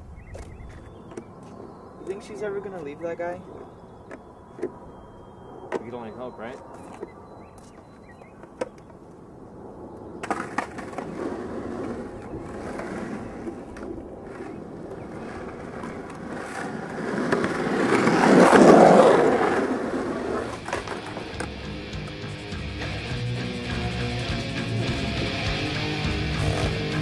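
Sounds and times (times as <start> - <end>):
skateboard wheels rolling on pavement: 0.0 - 5.1, 5.7 - 27.0.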